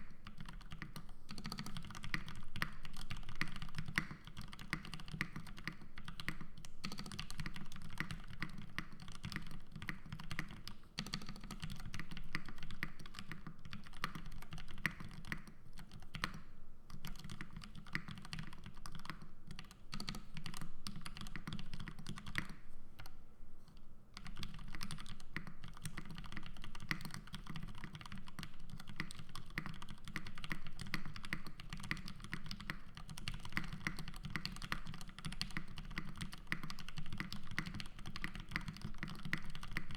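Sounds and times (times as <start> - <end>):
mechanical keyboard typing: 0.0 - 23.1, 24.2 - 39.9.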